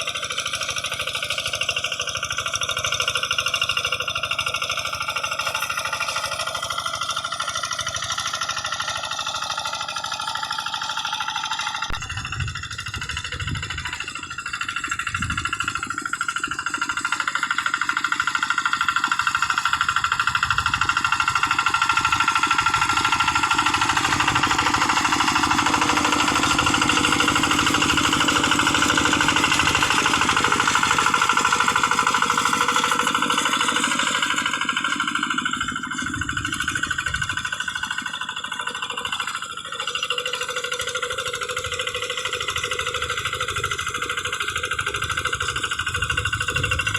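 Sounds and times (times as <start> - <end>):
diesel engine knocking: 0.0 - 46.9.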